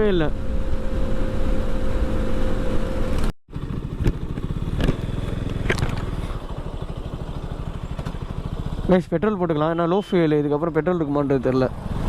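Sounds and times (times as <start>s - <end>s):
motorcycle engine running: 0.0s - 10.7s, 11.4s - 12.0s.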